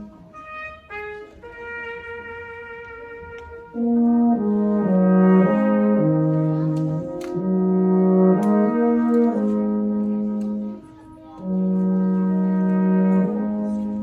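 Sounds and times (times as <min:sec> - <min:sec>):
brass quartet playing chords: 0:00.0 - 0:14.0.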